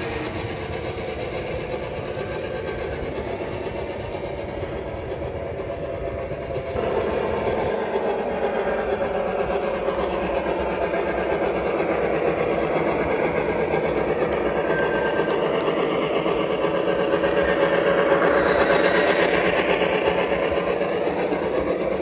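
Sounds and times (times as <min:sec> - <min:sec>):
model train whirring on rails: 0:00.0 - 0:22.0.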